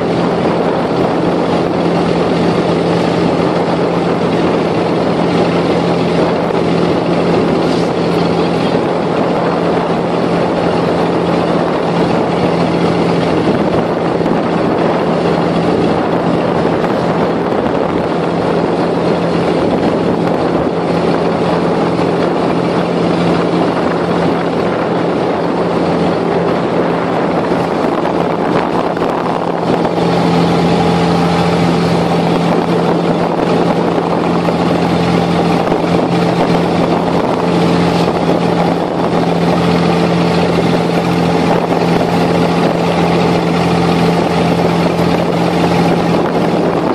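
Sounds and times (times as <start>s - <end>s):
boat diesel engine droning: 0.0s - 46.9s
water noise: 0.0s - 46.9s
wind noise: 0.0s - 46.9s.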